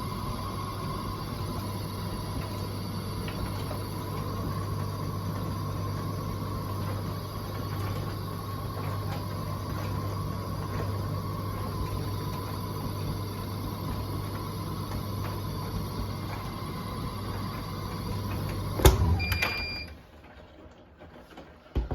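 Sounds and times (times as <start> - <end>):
tumble dryer high whine: 0.0 - 20.1
tumble dryer humming: 0.0 - 20.6.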